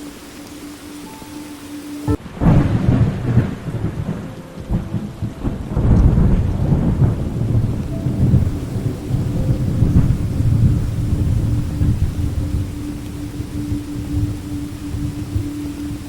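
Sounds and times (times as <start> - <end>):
steady rain: 0.0 - 16.0
thunder rolling: 0.0 - 16.0.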